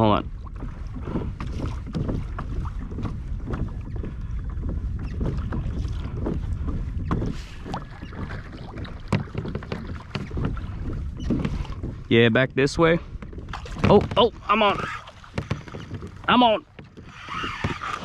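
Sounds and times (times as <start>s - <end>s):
water sloshing against hull: 0.0s - 18.0s
wind rumbling on microphone: 0.0s - 18.0s
small splashes and knocks: 0.4s - 12.0s, 13.2s - 18.0s.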